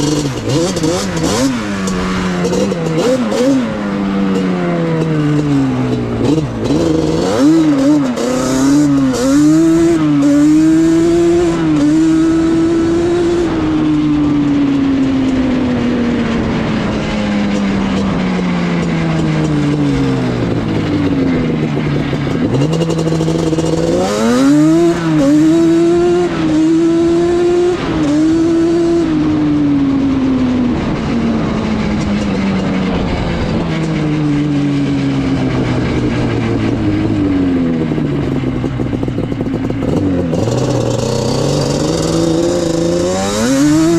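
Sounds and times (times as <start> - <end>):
two-stroke motorcycle engine revving: 0.0 - 43.9.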